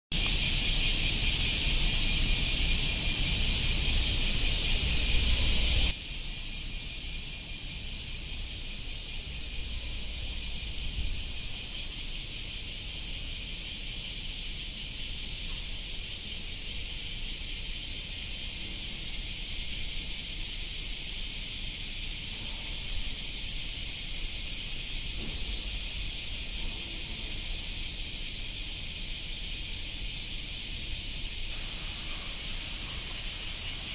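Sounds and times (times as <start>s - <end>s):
chorus of cicadas buzzing: 0.1s - 33.9s.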